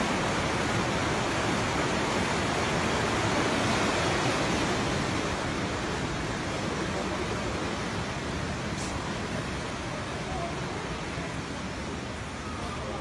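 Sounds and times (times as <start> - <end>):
floodwater rushing over rocks: 0.0 - 13.0.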